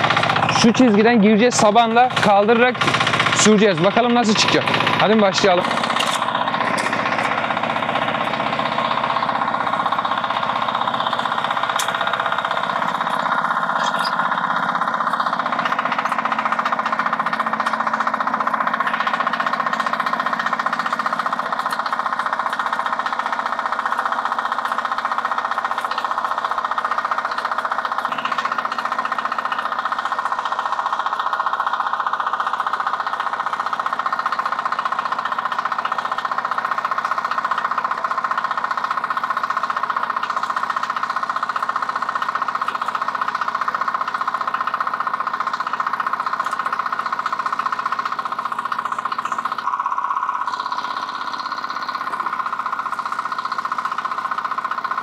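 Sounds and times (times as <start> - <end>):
tractor engine chugging: 0.0 - 55.0.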